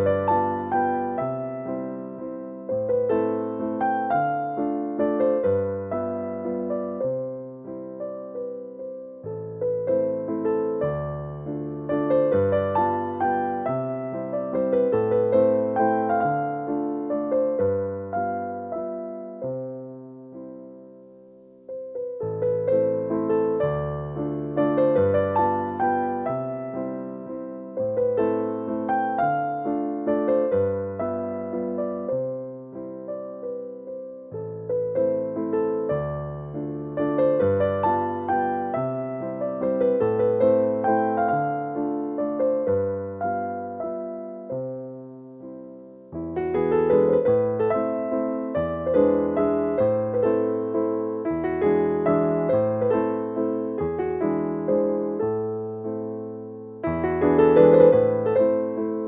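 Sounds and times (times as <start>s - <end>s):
soft electric piano music: 0.0s - 59.0s.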